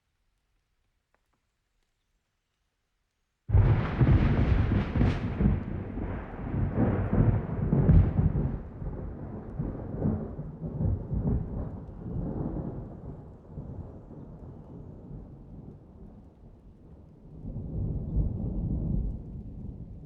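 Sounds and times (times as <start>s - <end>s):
thunder rumbling: 3.5s - 20.0s.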